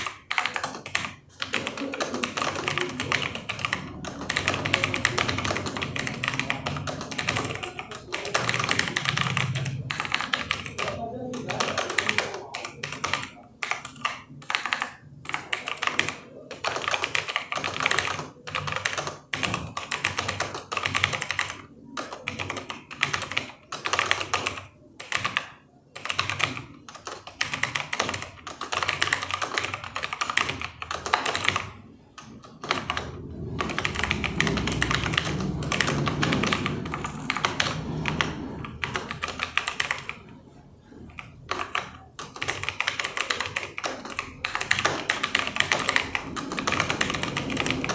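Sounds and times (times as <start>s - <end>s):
fast typing on keyboard: 0.0s - 47.9s.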